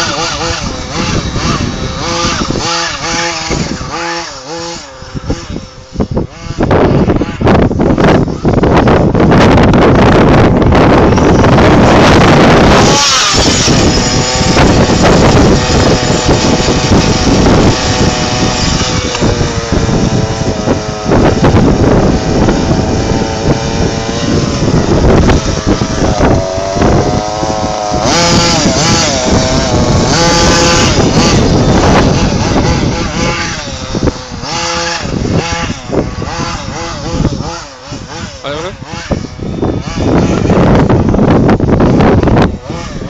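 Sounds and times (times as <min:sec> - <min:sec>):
small engine revving: 0:00.0 - 0:43.0
wind buffeting microphone: 0:00.0 - 0:43.0.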